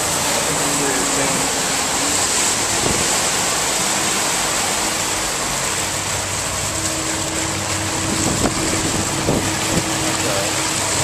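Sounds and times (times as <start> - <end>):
churning wake water rushing: 0.0 - 11.0
motorboat engine running: 0.0 - 11.0.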